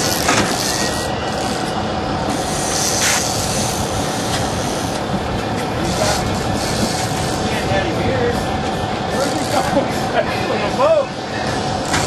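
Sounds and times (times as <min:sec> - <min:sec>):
boat engine rumble: 0:00.0 - 0:12.0
water along boat hull: 0:00.0 - 0:12.0
wind on deck: 0:00.0 - 0:12.0.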